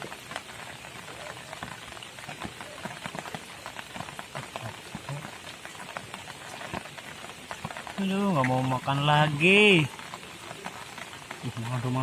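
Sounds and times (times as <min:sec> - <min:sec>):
rain falling: 0:00.0 - 0:12.0
raindrops striking close by: 0:00.0 - 0:12.0.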